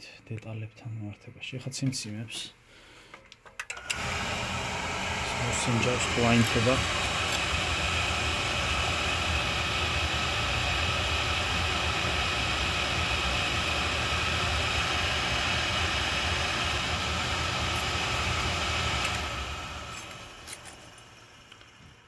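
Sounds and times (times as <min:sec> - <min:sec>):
boiler burner motor and blower hum: 0:03.7 - 0:22.0.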